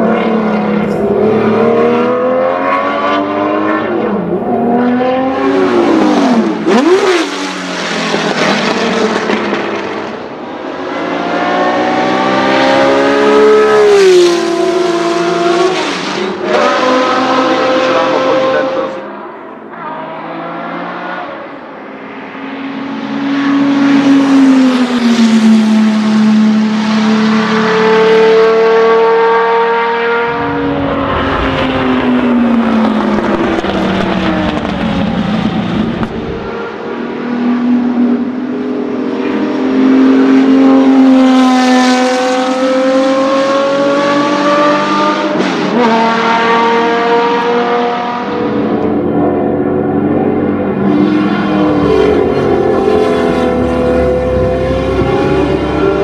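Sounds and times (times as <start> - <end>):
racing car engine revving: 0.0 - 10.3, 10.9 - 21.4, 23.0 - 56.0.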